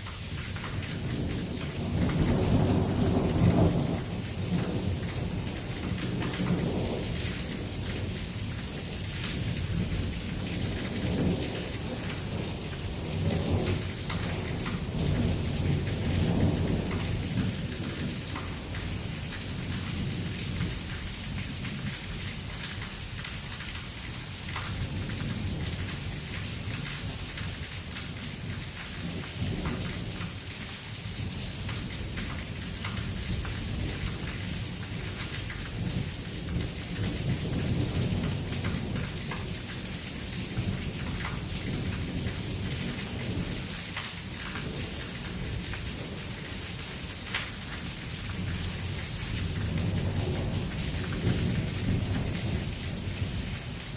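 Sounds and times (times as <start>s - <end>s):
heavy rain falling: 0.0s - 53.9s
low rolling thunder: 0.7s - 22.6s, 31.2s - 53.9s.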